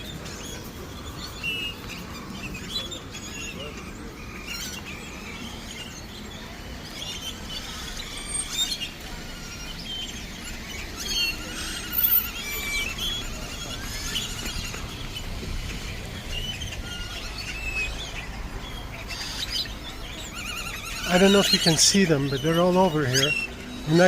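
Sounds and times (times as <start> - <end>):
flock of birds chirping: 0.0 - 24.0.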